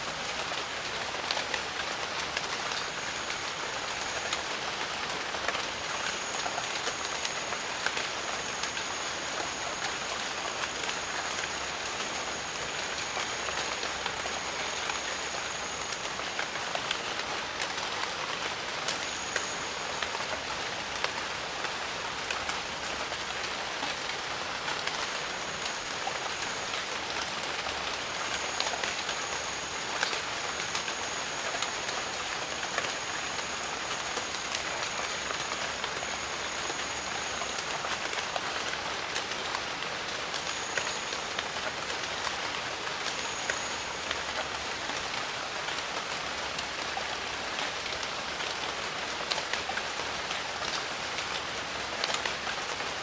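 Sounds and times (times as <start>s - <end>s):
steady rain: 0.0s - 53.0s
thin high steady tone: 0.8s - 22.2s, 23.0s - 44.4s.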